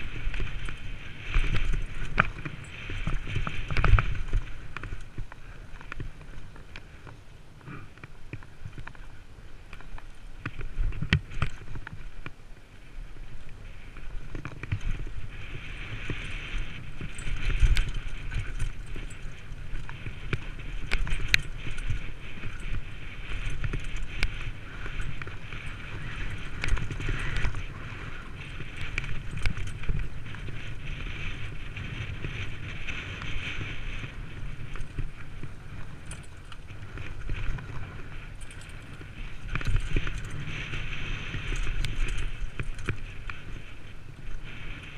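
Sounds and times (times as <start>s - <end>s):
bike knocks and rattles: 0.0s - 9.1s, 14.0s - 43.6s
bike tyres rumbling over dirt: 0.0s - 44.9s.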